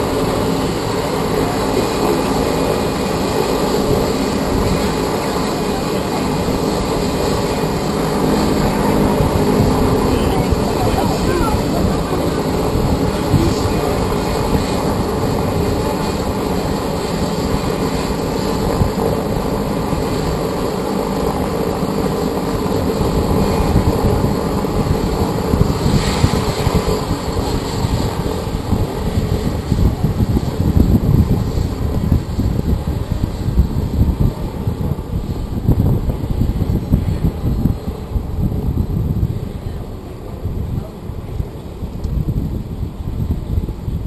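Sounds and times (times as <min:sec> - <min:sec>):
helicopter rotor and turbines: 0:00.0 - 0:44.0
wind buffeting microphone: 0:00.0 - 0:44.0.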